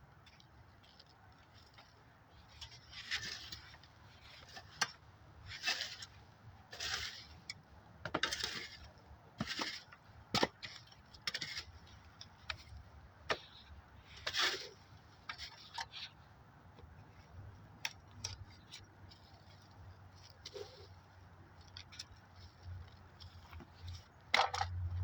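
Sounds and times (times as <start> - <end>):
digging in potting soil: 0.2 - 25.0.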